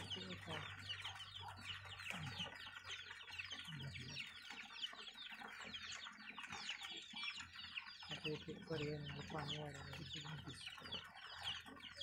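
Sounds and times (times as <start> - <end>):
chickens clucking: 0.0 - 12.0
water spraying from pipe: 0.0 - 12.0.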